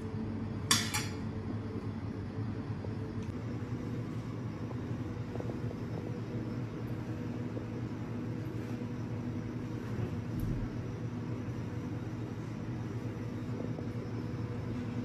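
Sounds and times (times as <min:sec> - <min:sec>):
machine humming with hiss: 0:00.0 - 0:15.0.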